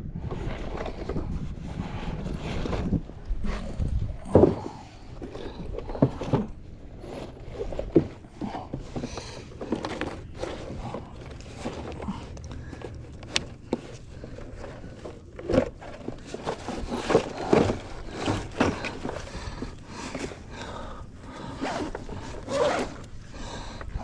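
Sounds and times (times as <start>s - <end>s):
rustling and scraping handling noises: 0.1s - 24.0s.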